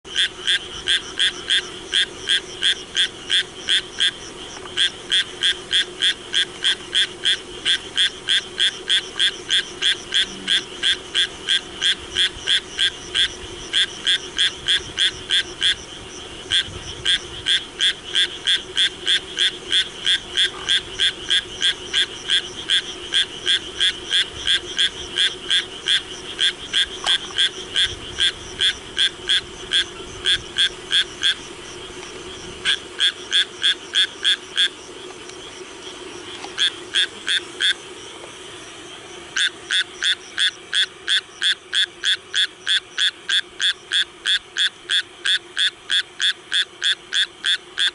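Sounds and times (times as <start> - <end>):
tree frog calling: 0.1 - 47.9.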